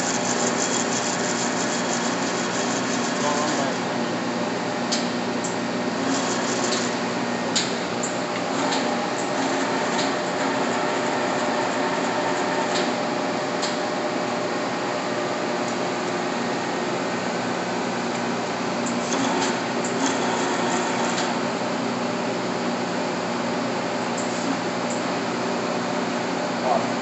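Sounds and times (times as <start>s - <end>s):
lathe running with mechanical hum: 0.0s - 27.0s.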